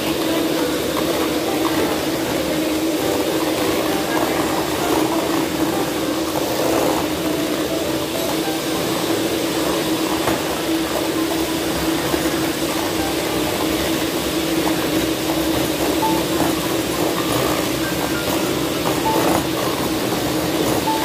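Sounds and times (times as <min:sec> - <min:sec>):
electric hand mixers whirring: 0:00.0 - 0:21.0.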